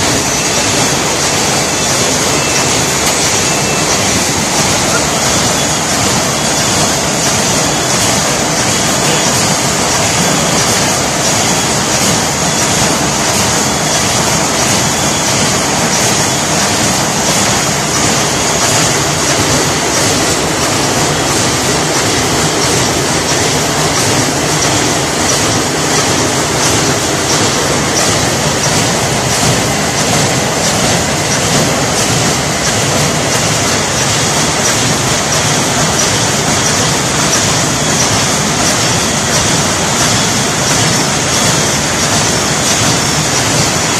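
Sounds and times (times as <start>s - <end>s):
packaging machine noise: 0.0s - 43.9s.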